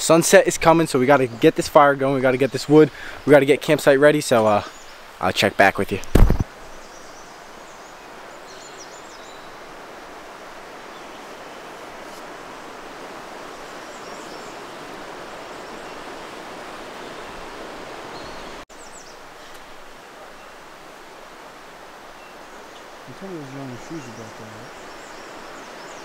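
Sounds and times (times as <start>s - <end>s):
creek water flowing: 0.0s - 26.0s
small birds chirping: 0.0s - 26.0s.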